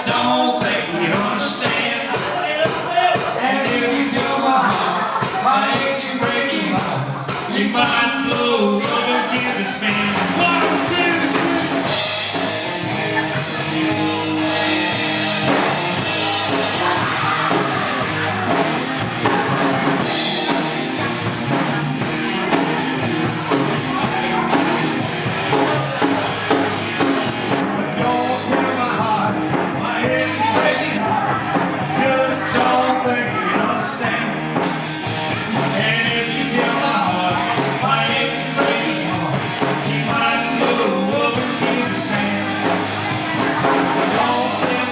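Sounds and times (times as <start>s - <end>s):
person singing: 0.0s - 26.6s, 27.4s - 44.9s
rock band playing: 0.0s - 44.9s.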